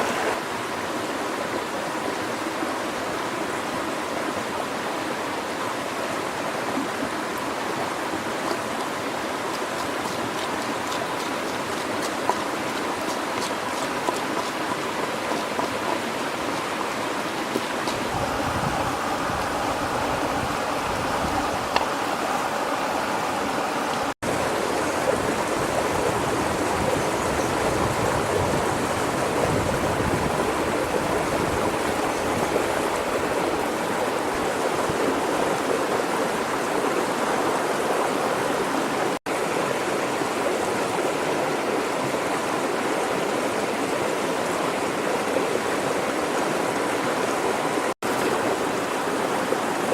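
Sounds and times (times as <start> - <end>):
flowing river water: 0.0 - 49.9.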